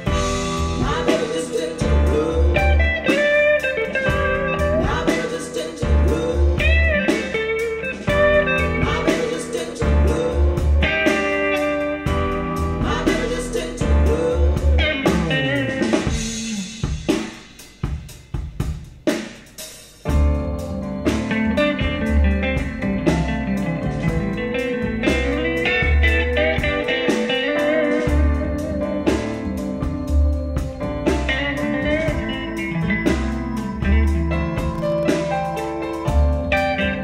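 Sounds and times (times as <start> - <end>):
blues-rock guitar: 0.0 - 18.1, 20.0 - 37.0.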